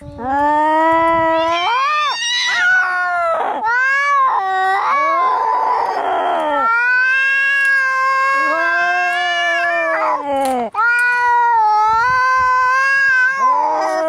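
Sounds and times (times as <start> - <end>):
cats yowling in a fight: 1.2 - 14.0.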